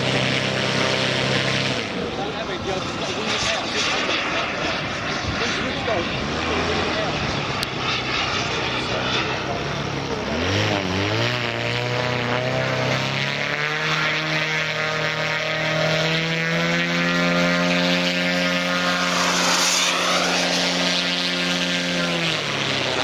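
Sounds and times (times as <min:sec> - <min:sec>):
model jet turbines roaring: 0:00.0 - 0:23.0.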